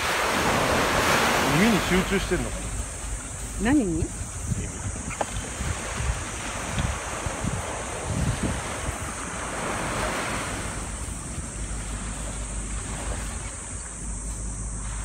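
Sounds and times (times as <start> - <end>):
small waves breaking on sand: 0.0 - 15.0
wind rumbling on microphone: 0.0 - 15.0.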